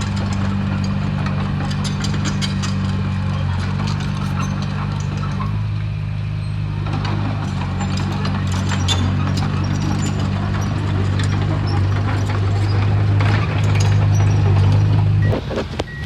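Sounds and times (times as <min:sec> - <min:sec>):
metal clanks and knocks: 0:00.0 - 0:05.6, 0:06.8 - 0:16.0
bulldozer diesel engine running: 0:00.0 - 0:16.0.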